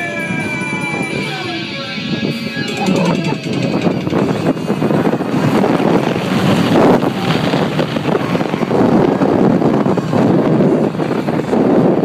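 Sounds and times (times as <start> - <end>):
roller coaster racing on track: 0.0 - 12.0
wind buffeting microphone: 0.0 - 12.0.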